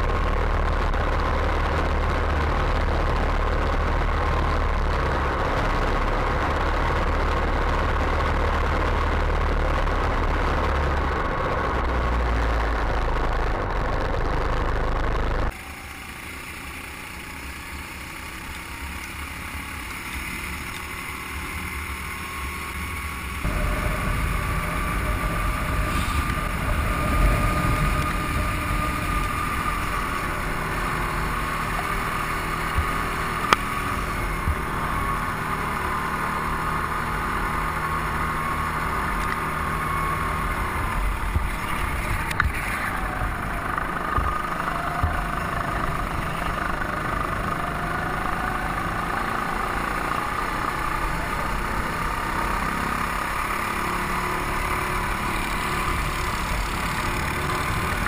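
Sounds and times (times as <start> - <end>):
go-kart engines whining: 0.0 - 58.0.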